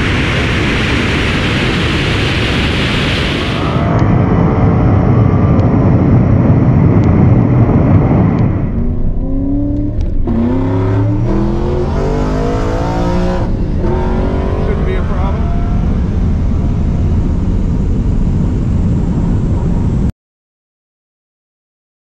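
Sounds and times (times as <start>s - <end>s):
wind and road noise rushing: 0.0s - 20.1s.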